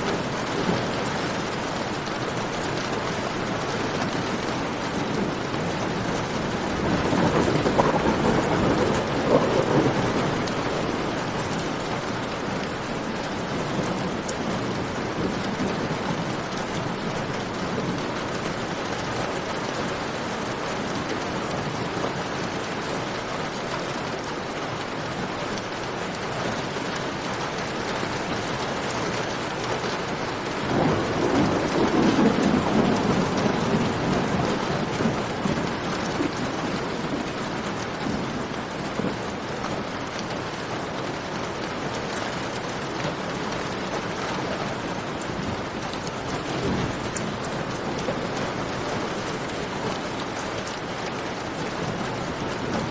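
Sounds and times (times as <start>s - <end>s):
faint campfire crackle: 0.0s - 52.9s
heavy rain: 0.0s - 52.9s
thunder rumble: 0.0s - 52.9s.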